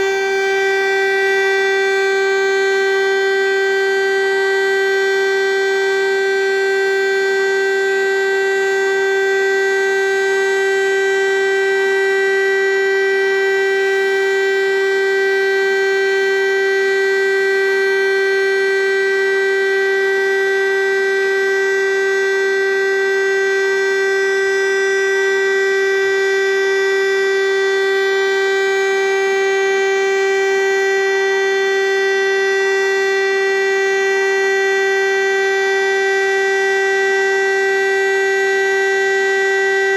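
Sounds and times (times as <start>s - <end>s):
civil defence siren steady tone: 0.0s - 39.9s.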